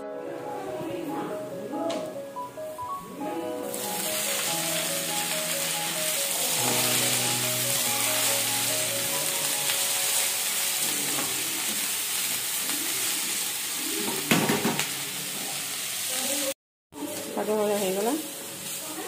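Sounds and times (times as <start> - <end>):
greens sizzling in a pan: 3.6 - 19.0.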